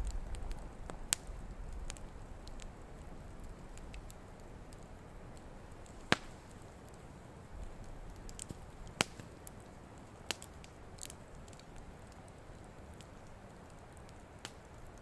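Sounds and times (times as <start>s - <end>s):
campfire crackling: 0.0s - 15.0s
fire popping: 0.0s - 15.0s
low rustle of burning fire: 0.0s - 15.0s.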